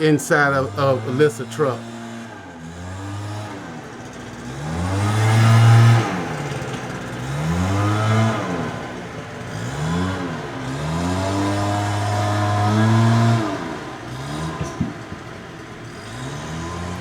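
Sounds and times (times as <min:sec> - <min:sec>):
leaf blower engine revving: 0:00.0 - 0:17.0.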